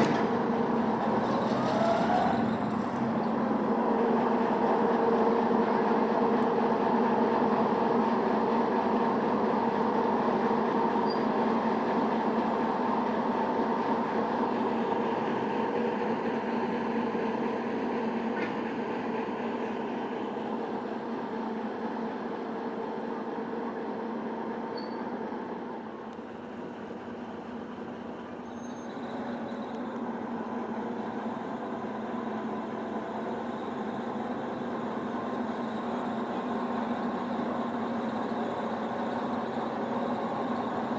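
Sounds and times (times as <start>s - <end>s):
diesel locomotive engine hum: 0.0s - 40.9s.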